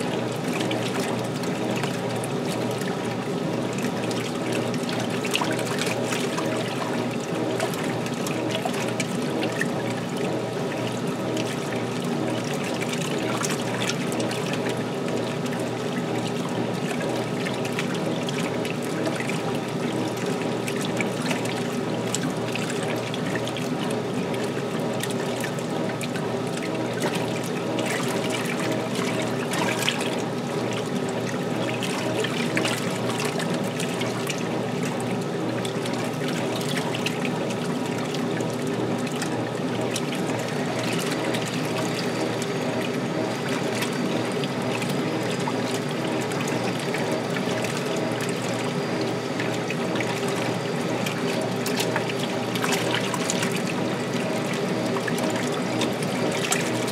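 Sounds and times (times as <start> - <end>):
washing machine motor hum: 0.0 - 56.9
water splashing in tub: 0.0 - 56.9.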